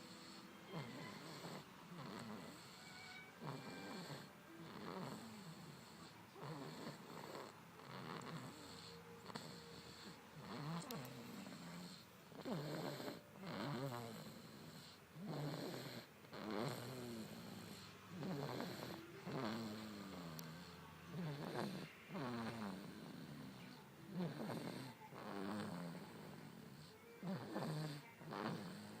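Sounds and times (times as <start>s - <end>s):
person snoring: 0.0s - 29.0s.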